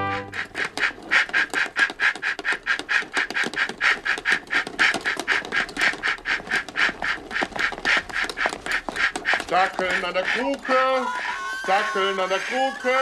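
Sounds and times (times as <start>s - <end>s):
steam train chuffing: 0.0s - 13.0s.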